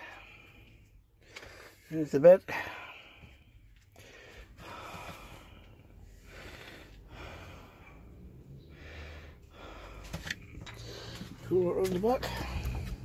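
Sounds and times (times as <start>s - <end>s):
person breathing: 0.0s - 1.9s, 2.5s - 11.4s.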